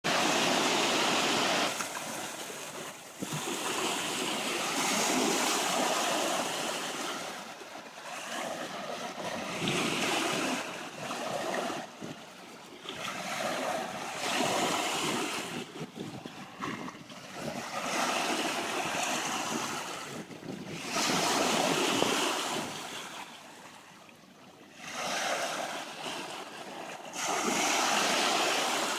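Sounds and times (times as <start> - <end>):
surf on rocky shore: 0.1 - 23.9, 24.7 - 28.9.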